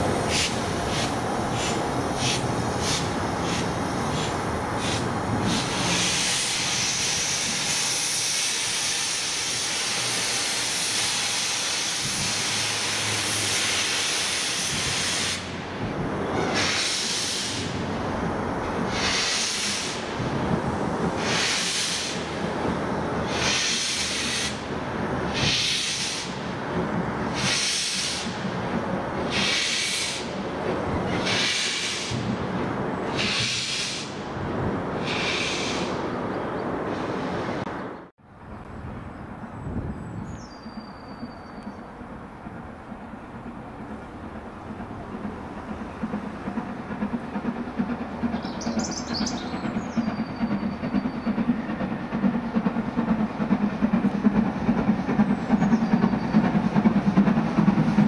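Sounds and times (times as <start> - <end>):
steam locomotive exhaust chuffs: 0.0 - 36.2, 40.3 - 58.0
steam locomotive hissing steam: 0.0 - 37.6, 43.3 - 58.0.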